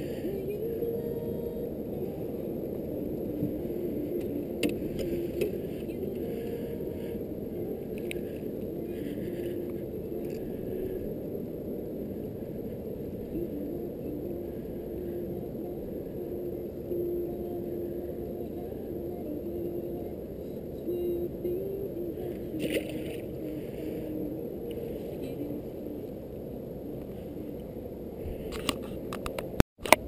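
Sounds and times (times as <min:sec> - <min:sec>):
outboard motor droning: 0:00.0 - 0:28.4.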